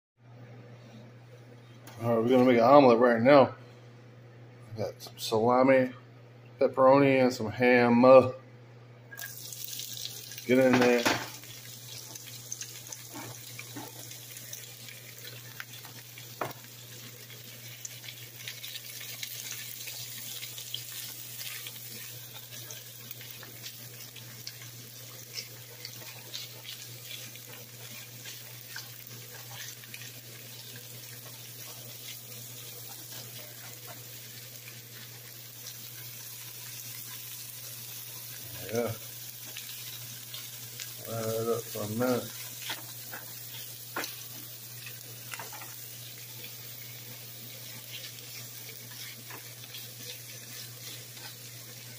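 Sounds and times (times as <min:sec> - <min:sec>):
meat sizzling in a frying pan: 0:09.2 - 0:51.9.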